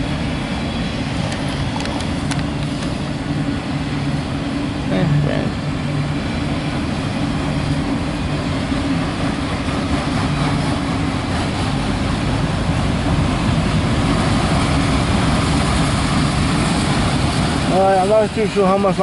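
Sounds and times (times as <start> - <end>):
train wheels on rail: 0.0 - 19.0.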